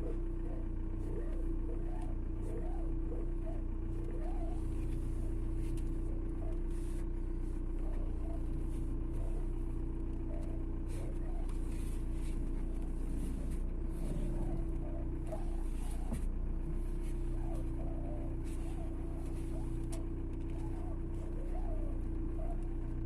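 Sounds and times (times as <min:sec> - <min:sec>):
engine hum: 0:00.0 - 0:23.0
steering rack squeaking: 0:00.0 - 0:23.0.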